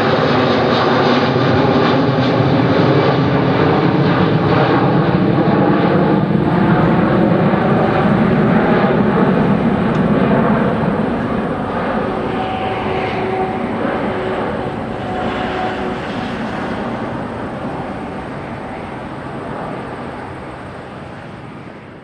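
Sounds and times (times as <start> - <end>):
jet engines roaring at takeoff: 0.0 - 22.0.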